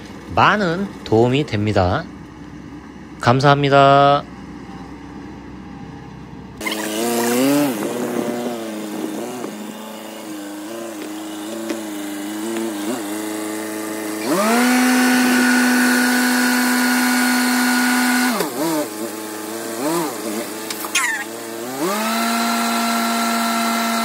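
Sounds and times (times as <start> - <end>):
truck engine running: 0.0 - 22.1.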